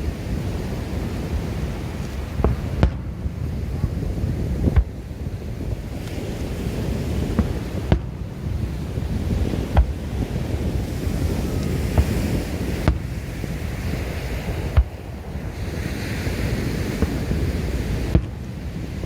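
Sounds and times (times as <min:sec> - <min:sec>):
fireworks bangs: 0:00.0 - 0:19.0
surf: 0:00.0 - 0:19.0
wind on microphone: 0:00.0 - 0:19.0.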